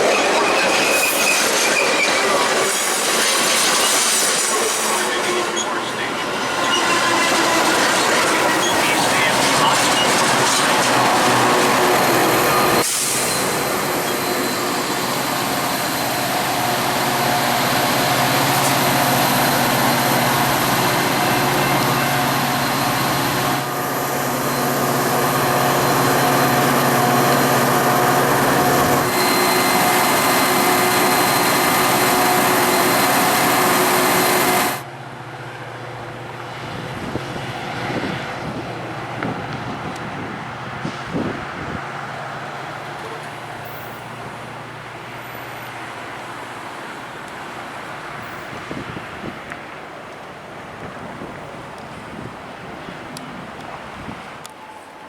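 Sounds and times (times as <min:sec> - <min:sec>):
diesel train engine hum: 0:00.0 - 0:55.0
wind: 0:00.0 - 0:55.0
distant traffic: 0:03.4 - 0:55.0.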